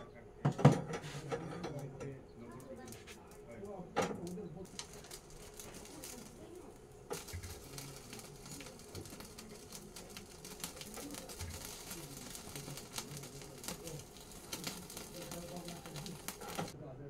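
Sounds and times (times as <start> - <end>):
pan crackling and popping: 0.5 - 16.8
soft hiss of gas burner: 0.8 - 16.8.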